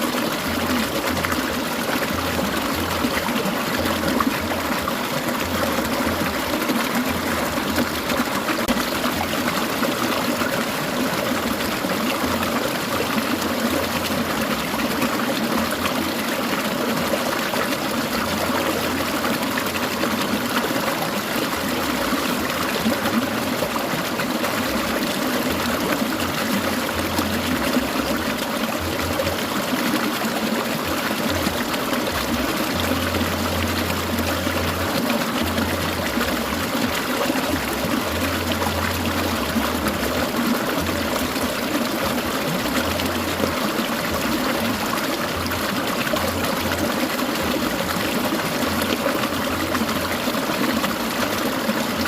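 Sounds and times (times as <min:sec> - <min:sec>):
stream gurgling over stones: 0:00.0 - 0:52.0.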